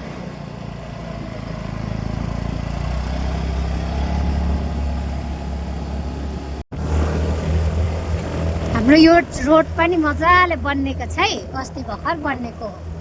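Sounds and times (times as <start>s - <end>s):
scooter engine humming: 0.0s - 13.0s.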